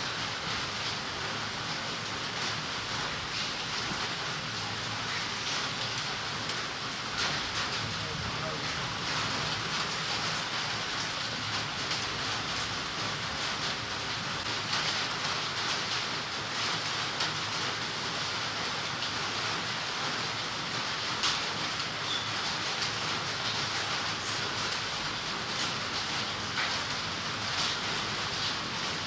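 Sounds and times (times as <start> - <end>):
rain on foliage: 0.0 - 29.0.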